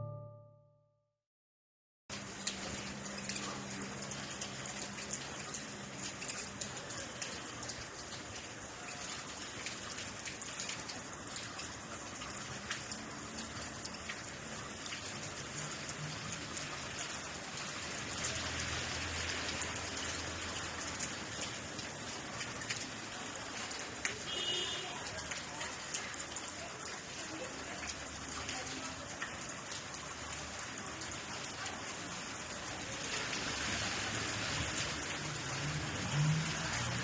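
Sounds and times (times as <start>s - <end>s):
rain falling: 2.1s - 37.0s
raindrops ticking on a surface: 2.1s - 37.0s.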